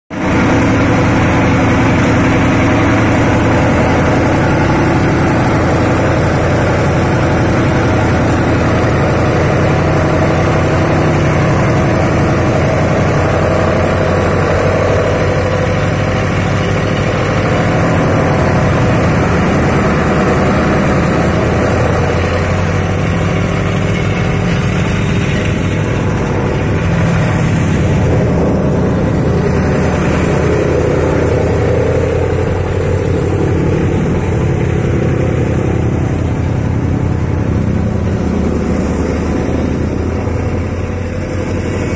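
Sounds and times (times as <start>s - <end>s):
straw chopper running: 0.1s - 41.9s.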